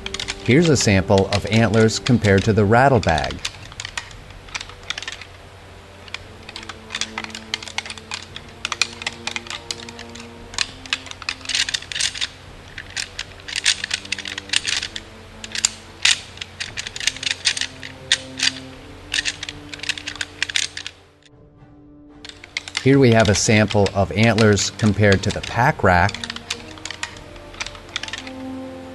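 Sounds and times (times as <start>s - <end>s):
antlers rattling and clacking: 0.0s - 21.3s, 22.2s - 28.9s.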